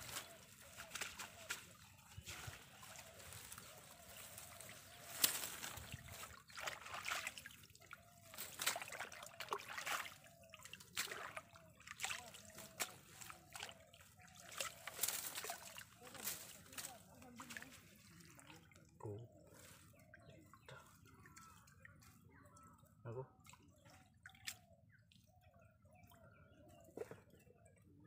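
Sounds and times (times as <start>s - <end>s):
water trickling: 0.0s - 26.9s
muddy water sloshing and splashing: 0.0s - 28.0s.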